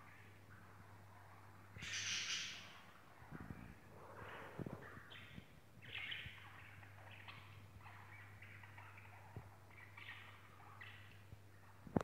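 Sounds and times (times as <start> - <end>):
low steady hum: 0.0 - 12.0
budgerigars chirping: 0.1 - 11.8.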